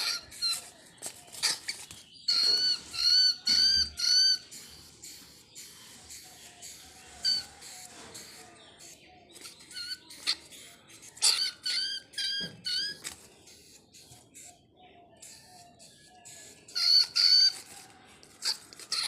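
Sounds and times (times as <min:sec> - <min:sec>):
small animal squeaking: 0:00.0 - 0:19.0.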